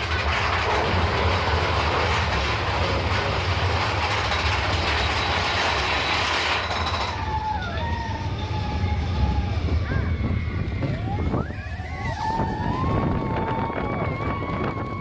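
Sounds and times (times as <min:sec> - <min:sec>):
roller coaster running on track: 0:00.0 - 0:15.0.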